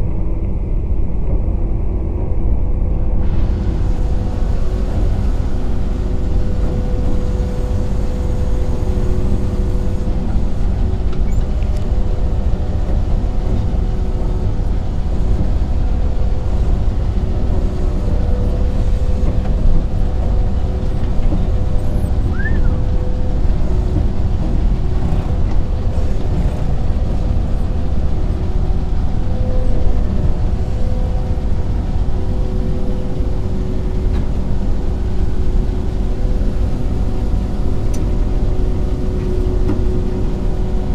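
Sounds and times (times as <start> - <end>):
combine harvester rumbling: 0.0 - 40.9
steady machine whine: 0.0 - 40.9.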